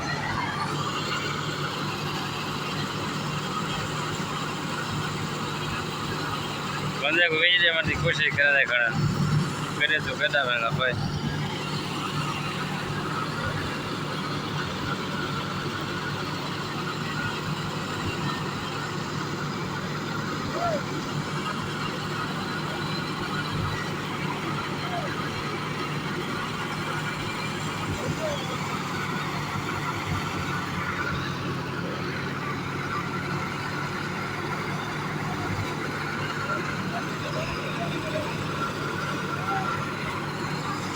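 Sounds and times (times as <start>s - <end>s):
threshing machine running: 0.0s - 40.9s
tractor engine drone: 0.0s - 40.9s.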